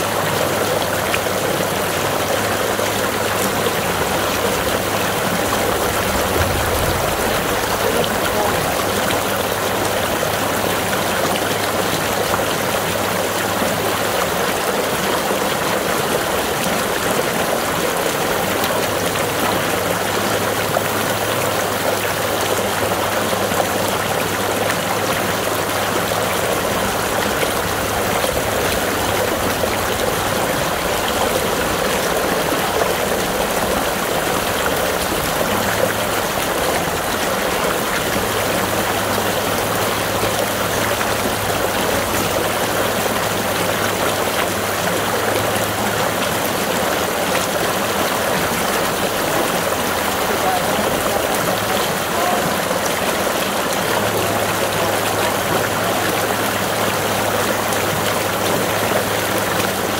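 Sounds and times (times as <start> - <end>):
water pouring from drain pipe: 0.0 - 59.9
water splashing into pool: 0.0 - 59.9.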